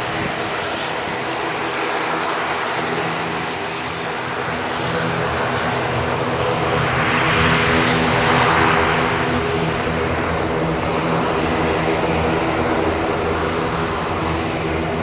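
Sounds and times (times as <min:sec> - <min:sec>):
turboprop propeller drone: 0:00.0 - 0:15.0.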